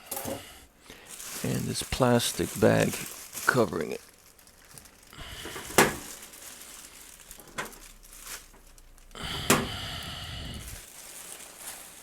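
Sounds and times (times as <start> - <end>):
plastic bag crinkling: 0.8 - 12.0.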